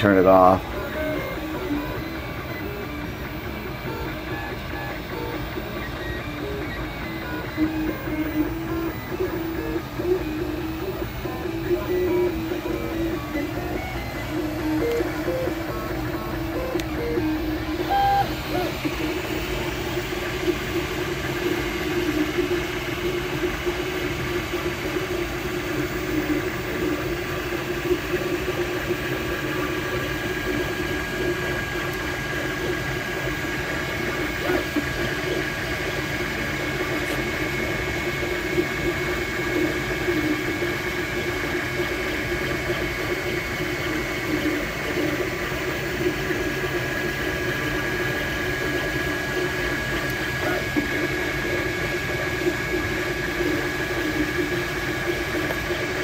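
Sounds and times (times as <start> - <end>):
thin steady whine: 0.0 - 56.0
three-d printer whirring: 0.0 - 56.0.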